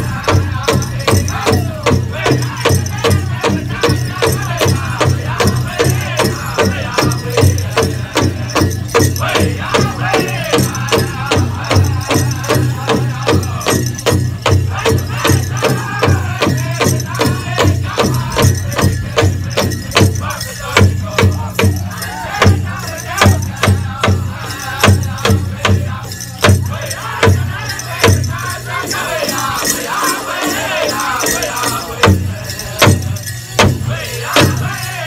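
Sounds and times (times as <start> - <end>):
big drum beating: 0.0 - 29.4
ankle bells jingling: 0.0 - 35.0
high-pitched group singing: 0.0 - 35.0.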